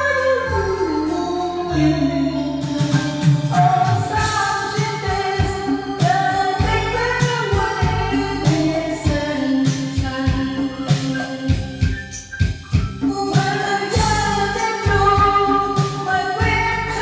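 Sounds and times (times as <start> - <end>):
song with singing and beat: 0.0 - 17.0.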